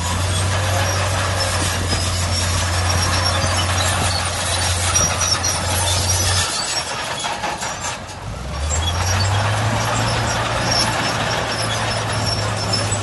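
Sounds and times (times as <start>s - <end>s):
heavy machinery diesel engine: 0.0s - 13.0s
machinery clatter and rumble: 0.0s - 13.0s.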